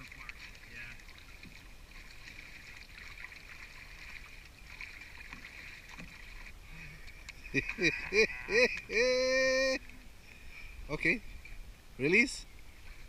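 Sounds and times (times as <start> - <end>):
shallow water sloshing: 0.0 - 11.8.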